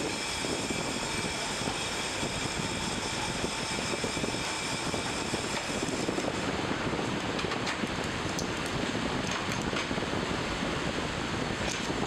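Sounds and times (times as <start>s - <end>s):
high steady whines: 0.0s - 12.0s
workshop machinery running: 0.0s - 12.0s.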